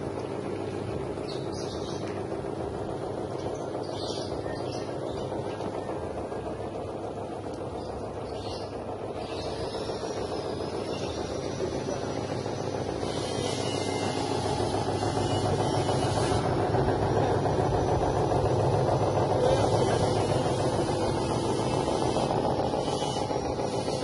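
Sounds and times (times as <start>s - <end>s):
poultry plucker mechanical hum: 0.0s - 24.0s.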